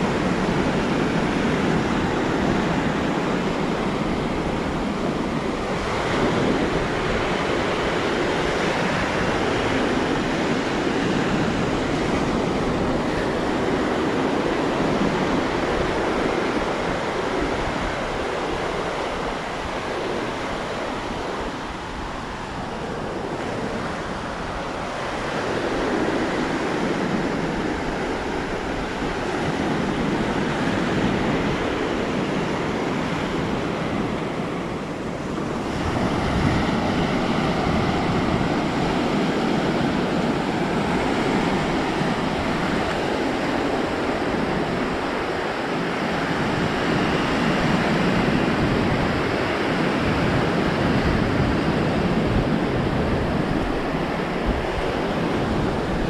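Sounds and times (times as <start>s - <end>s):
ocean waves breaking: 0.0s - 56.0s
wind on microphone: 0.0s - 56.0s.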